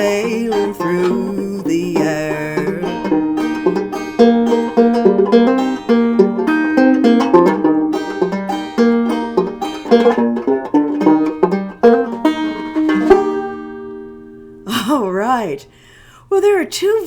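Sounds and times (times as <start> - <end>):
plucked string instrument: 0.0 - 15.5.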